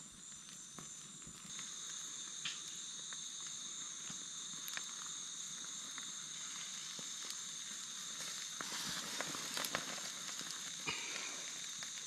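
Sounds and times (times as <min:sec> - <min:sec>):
fire crackling and popping: 0:00.0 - 0:12.0
fish sizzling over fire: 0:00.0 - 0:12.0
night insects chorus: 0:00.0 - 0:12.0.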